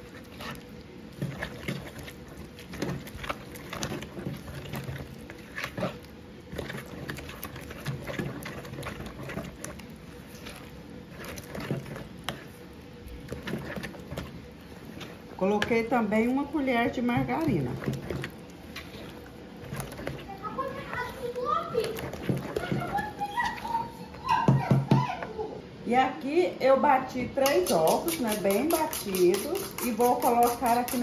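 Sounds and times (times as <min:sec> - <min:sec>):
wooden spoon stirring batter: 0:00.0 - 0:25.6, 0:27.0 - 0:31.0.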